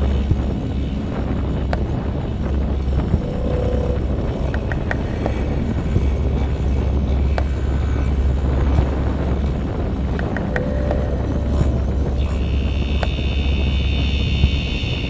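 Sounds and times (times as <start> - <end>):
motorcycle engine and road rumble: 0.0 - 15.0
wind rushing over microphone: 0.0 - 15.0.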